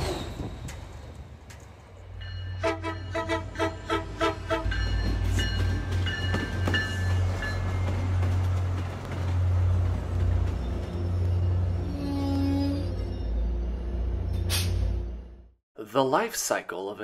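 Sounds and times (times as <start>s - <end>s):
diesel train passing: 0.0s - 15.6s.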